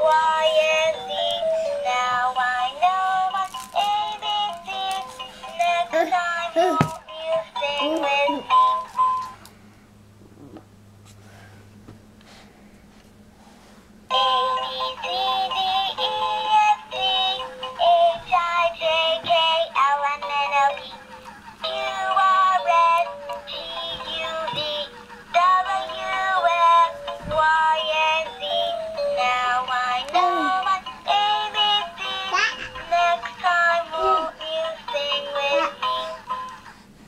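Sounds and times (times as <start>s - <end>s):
toy playing tinny children's song: 0.0s - 9.4s, 14.1s - 36.8s.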